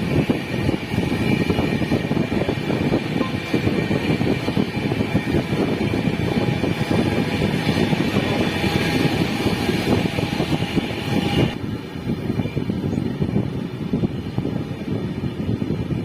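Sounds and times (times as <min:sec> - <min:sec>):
faint high whine: 0:00.0 - 0:14.8
train rumbling on track: 0:00.0 - 0:16.0.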